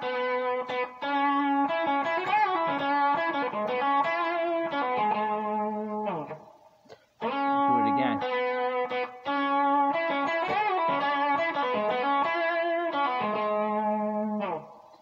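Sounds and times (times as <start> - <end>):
electric guitar blues lick: 0.0 - 15.0.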